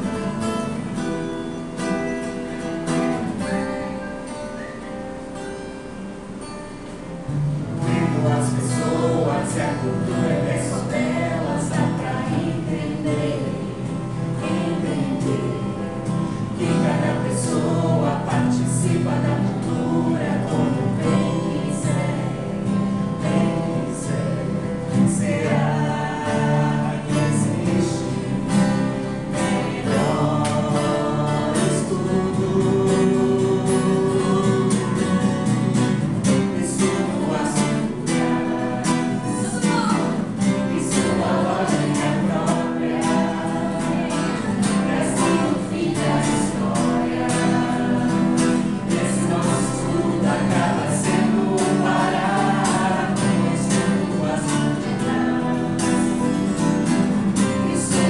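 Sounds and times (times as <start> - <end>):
people singing together: 0.0 - 4.6, 7.3 - 58.0
strummed guitar: 0.0 - 58.0.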